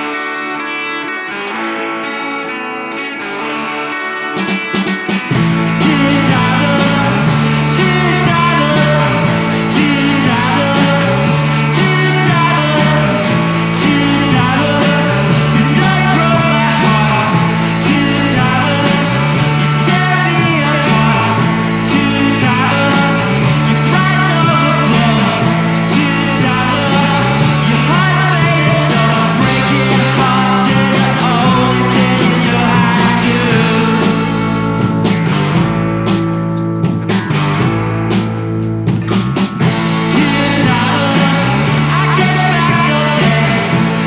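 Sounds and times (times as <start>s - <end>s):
guitar: 0.0s - 44.0s
rock music: 0.0s - 44.0s
steady drum beat: 4.3s - 44.0s
low bass figure: 5.3s - 44.0s.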